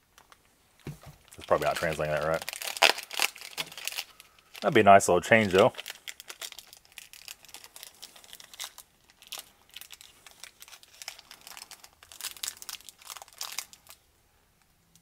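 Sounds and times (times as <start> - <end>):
plastic wrapper crinkling: 0.1 - 14.1.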